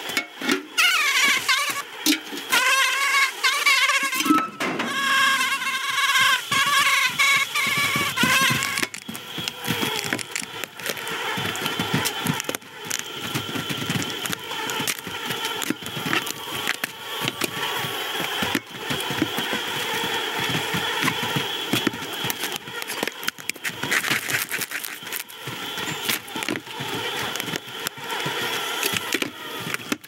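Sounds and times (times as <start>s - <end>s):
constant high insect buzz: 0.0s - 30.0s.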